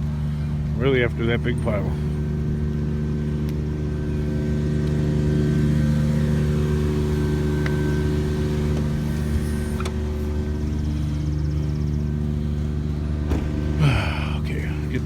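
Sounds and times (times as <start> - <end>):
minivan engine running: 0.0 - 15.0.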